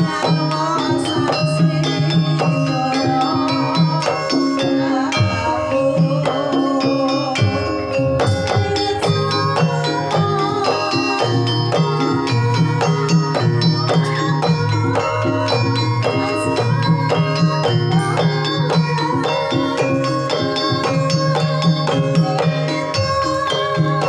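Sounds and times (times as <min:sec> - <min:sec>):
gamelan music: 0:00.0 - 0:24.0.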